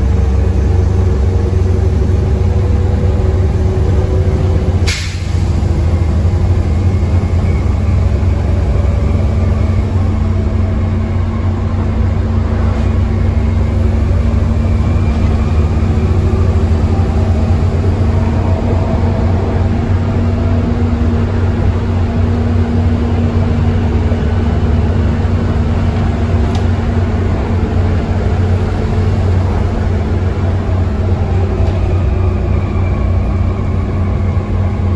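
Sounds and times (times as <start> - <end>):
bus diesel engine droning: 0.0 - 34.9.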